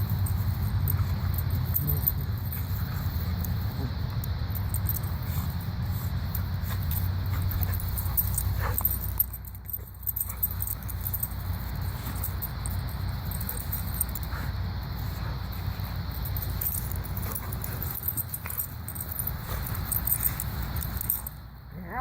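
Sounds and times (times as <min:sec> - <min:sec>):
dogs wrestling and scuffling: 0:00.0 - 0:22.0
metal jingling: 0:00.0 - 0:22.0
steady low hum: 0:00.0 - 0:22.0.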